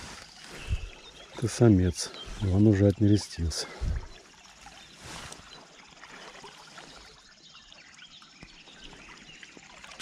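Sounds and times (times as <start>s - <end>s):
shallow river water trickling: 0.0s - 10.0s.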